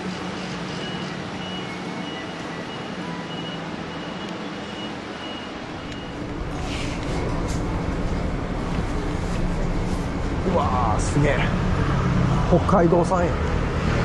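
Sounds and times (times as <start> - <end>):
street traffic noise: 0.0 - 14.0
vehicle engine humming: 0.0 - 14.0.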